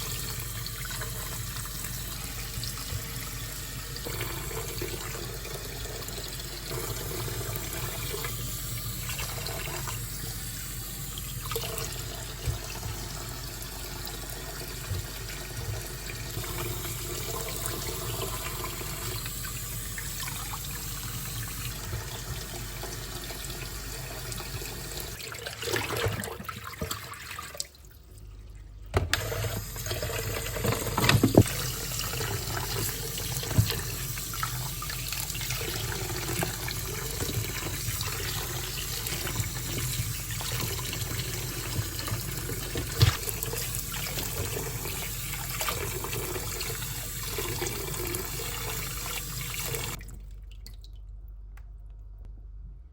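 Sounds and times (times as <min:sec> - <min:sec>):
tap water running into sink: 0:00.0 - 0:27.7, 0:28.9 - 0:50.9.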